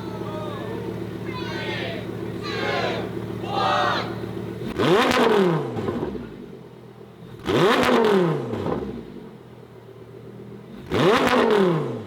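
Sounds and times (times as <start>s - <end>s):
engine throttle blips: 0.0s - 12.0s
sports car engine idling: 0.0s - 12.0s.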